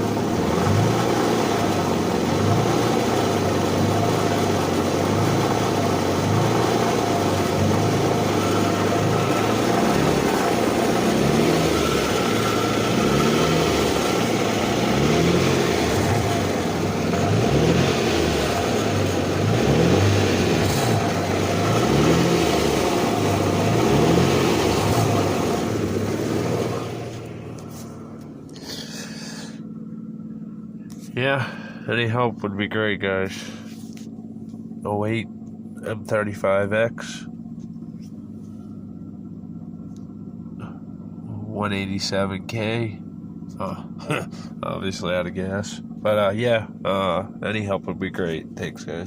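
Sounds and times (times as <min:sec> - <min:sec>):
car engine running with rattle: 0:00.0 - 0:49.0.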